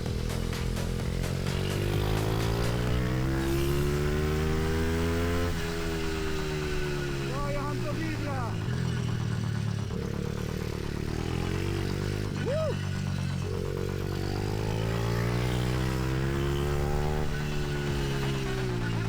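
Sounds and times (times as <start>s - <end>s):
motorbike engine accelerating: 0.0s - 19.0s.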